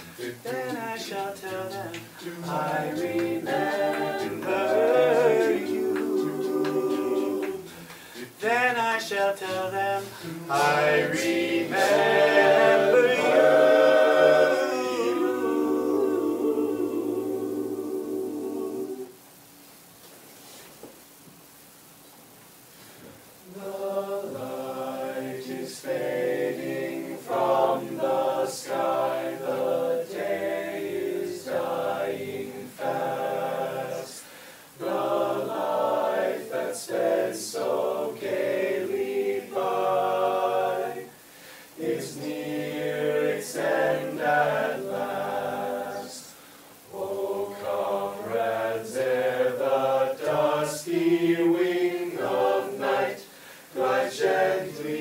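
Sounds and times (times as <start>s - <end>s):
vocal group singing in harmony: 0.0s - 19.3s, 23.4s - 55.0s.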